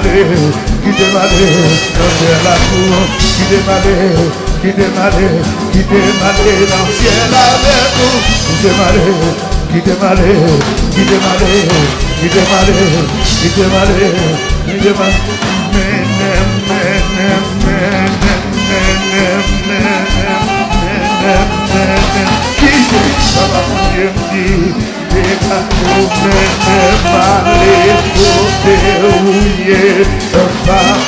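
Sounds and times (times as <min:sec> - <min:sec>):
gospel hymn music: 0:00.0 - 0:31.0.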